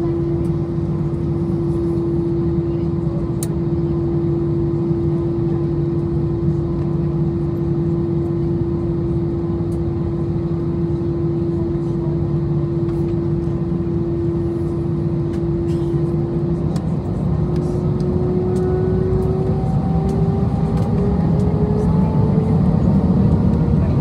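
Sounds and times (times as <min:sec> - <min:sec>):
jet engine cabin drone: 0:00.0 - 0:24.0.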